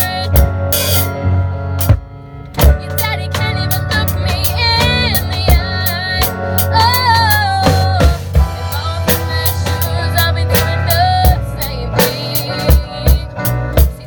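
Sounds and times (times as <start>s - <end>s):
live band playing pop: 0.0s - 14.0s.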